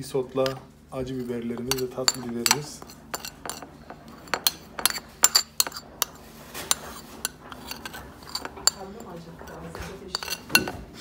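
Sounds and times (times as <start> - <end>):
metal spoon scraping ceramic plate: 0.4 - 11.0.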